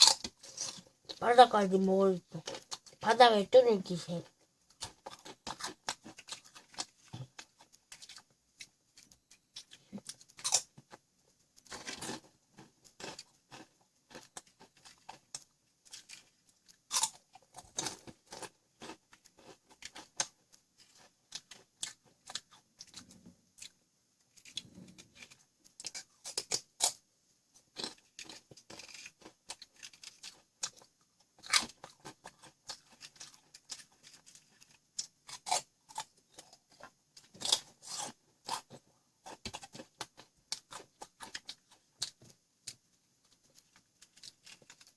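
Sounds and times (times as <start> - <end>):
crunching and chewing snack: 0.0 - 1.2, 2.4 - 3.0, 4.2 - 44.9.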